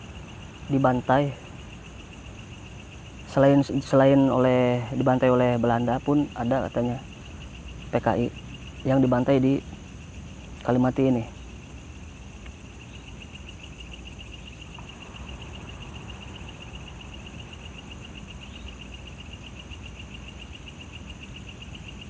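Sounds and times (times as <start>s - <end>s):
crickets trilling: 0.0s - 22.0s
high insect buzz: 0.0s - 22.0s.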